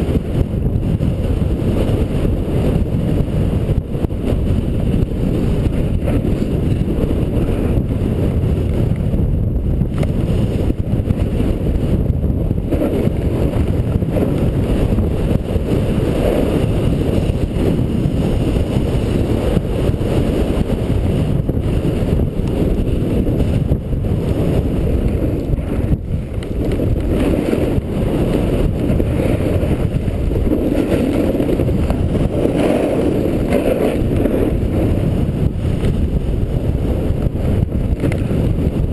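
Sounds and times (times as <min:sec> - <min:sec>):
wind rush on microphone: 0:00.0 - 0:38.9
skis sliding on packed snow: 0:00.1 - 0:09.2, 0:09.8 - 0:38.9.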